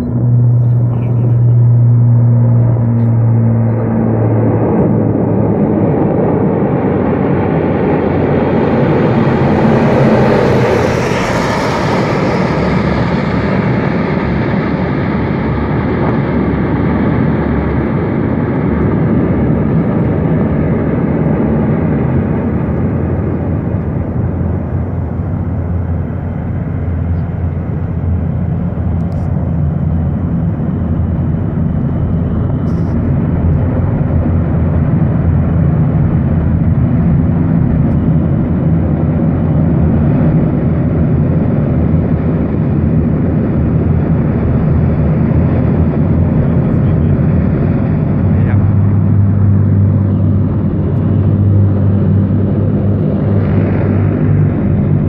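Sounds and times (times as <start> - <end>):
turboprop engines droning: 0.0 - 55.0.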